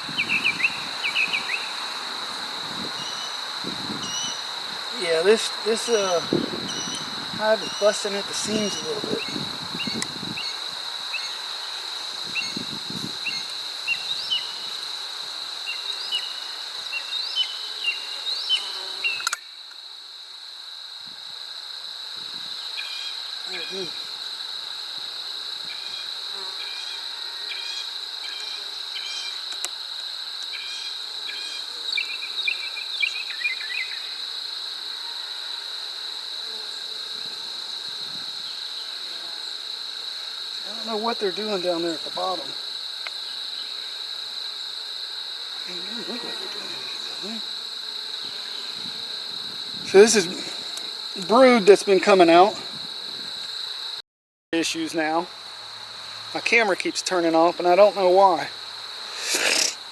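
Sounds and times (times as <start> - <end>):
high-pitched insect drone: 0.0 - 54.0, 54.6 - 59.9
insect chirps: 0.0 - 54.0, 54.6 - 59.9.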